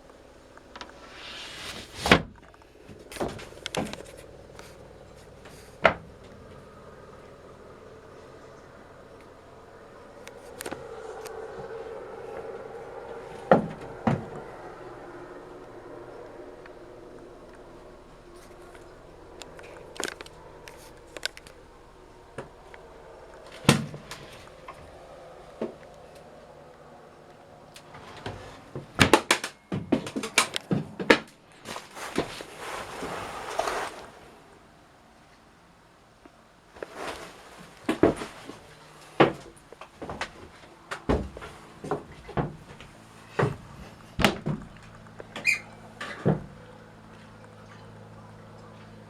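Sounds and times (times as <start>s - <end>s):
steady low hum: 0.0s - 49.0s
rustling and scraping: 0.7s - 34.6s, 36.7s - 47.4s.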